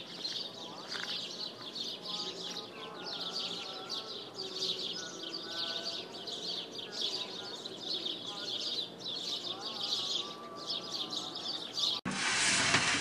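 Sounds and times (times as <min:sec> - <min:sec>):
birds whistling: 0:00.0 - 0:12.0.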